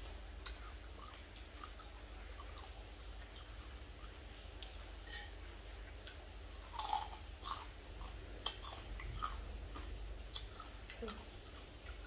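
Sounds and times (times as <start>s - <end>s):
people chewing and crunching: 0.0s - 4.8s, 5.8s - 12.0s.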